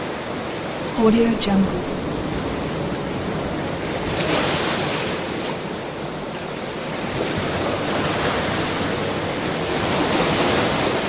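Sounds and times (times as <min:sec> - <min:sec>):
ocean surf washing onto shore: 0:00.0 - 0:11.0.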